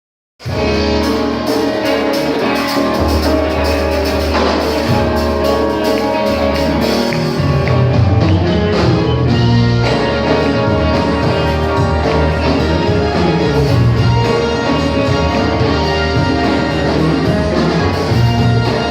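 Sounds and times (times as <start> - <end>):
bass line: 0.4 - 18.9
drum kit: 0.4 - 18.9
guitar: 0.4 - 18.9.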